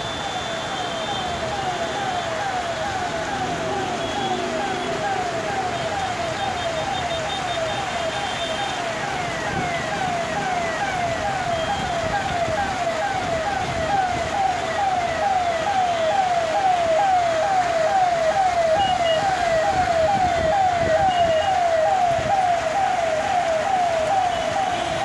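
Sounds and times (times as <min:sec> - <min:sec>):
rain hiss: 0:00.0 - 0:20.3
electronic siren wail: 0:00.0 - 0:25.0.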